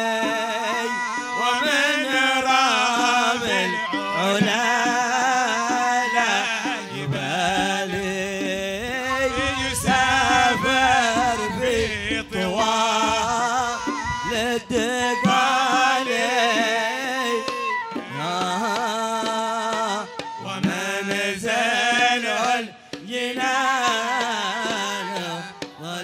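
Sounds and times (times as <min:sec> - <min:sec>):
hand drums beating: 0:00.0 - 0:26.0
men singing devotional chant: 0:00.0 - 0:26.0.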